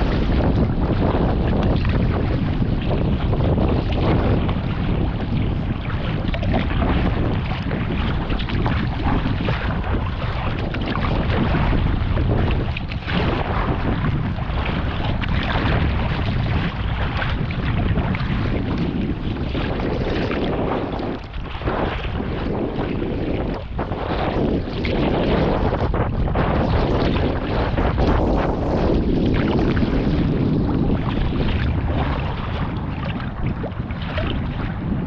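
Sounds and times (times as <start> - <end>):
water splashing around kayak: 0.0 - 35.0
wind buffeting microphone: 0.0 - 35.0.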